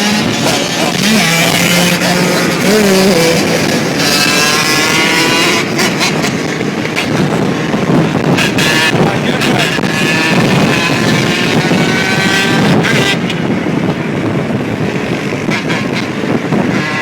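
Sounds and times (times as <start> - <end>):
dirt bike engines revving: 0.0 - 17.0
wind gusts on microphone: 0.0 - 17.0.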